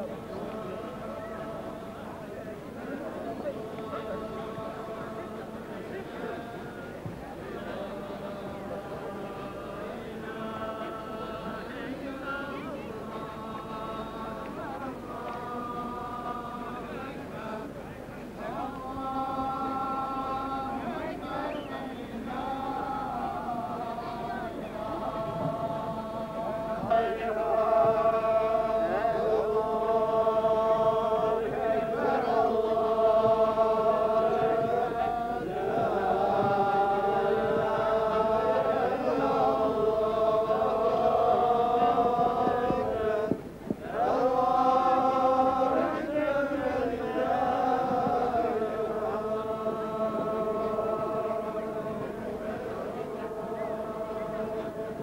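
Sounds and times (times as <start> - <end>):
men chanting in unison: 2.8 - 17.8, 18.4 - 55.0.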